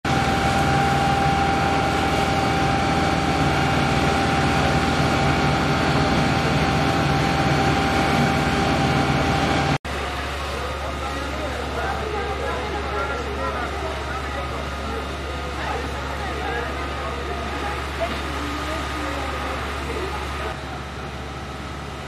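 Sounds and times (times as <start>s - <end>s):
fire engine engine droning: 0.0s - 22.0s
thin steady whine: 0.1s - 22.0s.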